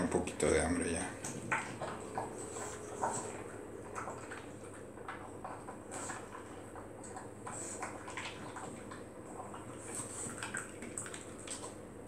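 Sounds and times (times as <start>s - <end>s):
dog chewing food: 0.0s - 12.0s.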